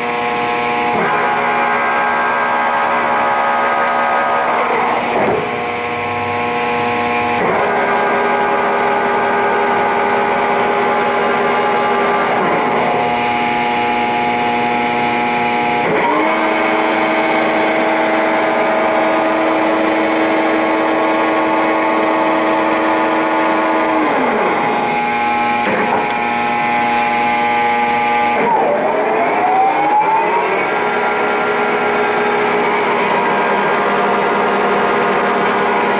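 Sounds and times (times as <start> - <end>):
lathe whining: 0.0 - 35.9.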